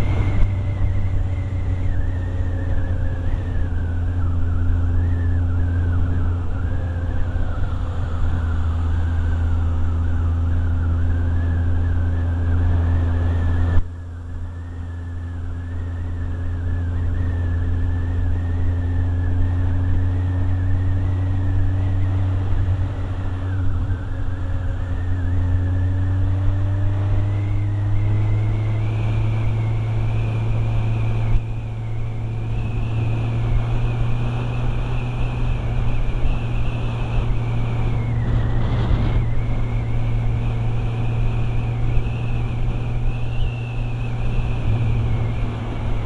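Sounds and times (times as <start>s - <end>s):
high wavering whine: 0.0s - 46.0s
motorcycle engine running: 0.0s - 46.0s.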